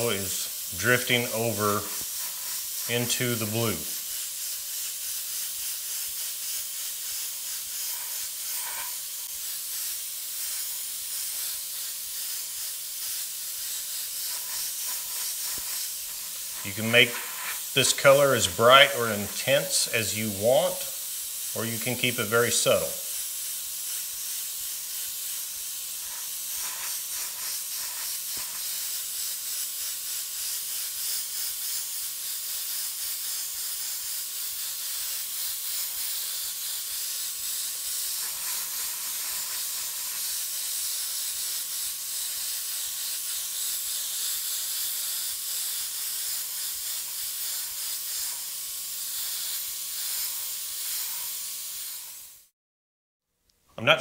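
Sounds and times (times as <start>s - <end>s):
airbrush spraying hiss: 0.0s - 52.5s.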